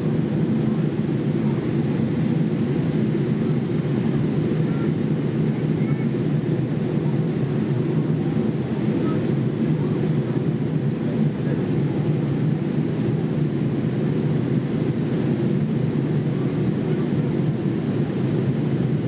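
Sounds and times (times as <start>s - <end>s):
airliner cabin noise: 0.0s - 19.0s.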